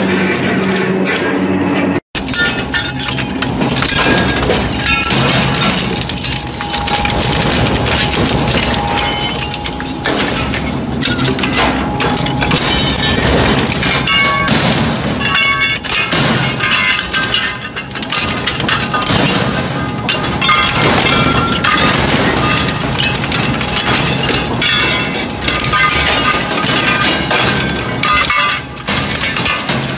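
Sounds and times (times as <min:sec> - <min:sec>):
shredder crunching metal: 0:00.0 - 0:29.9
ringing metal pieces: 0:02.2 - 0:29.9.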